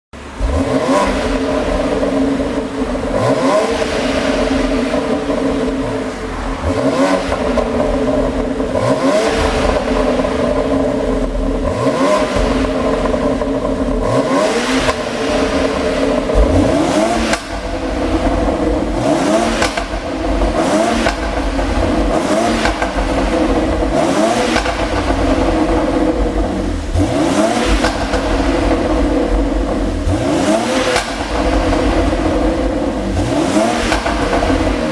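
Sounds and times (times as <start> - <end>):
car engine revving: 0.2 - 34.9
exhaust pops and crackles: 0.2 - 34.9.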